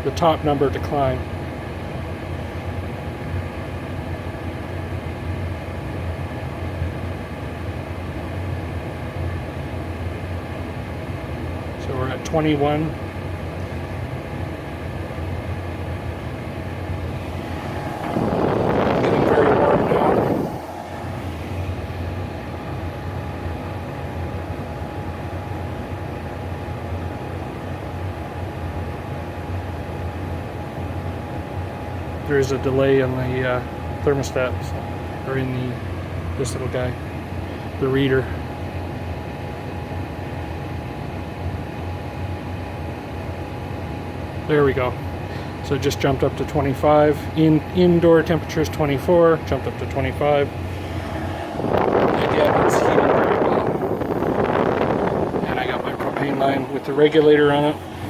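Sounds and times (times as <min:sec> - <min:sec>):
furnace blower and burner drone: 0:00.0 - 0:58.0
thin steady whine: 0:00.0 - 0:58.0.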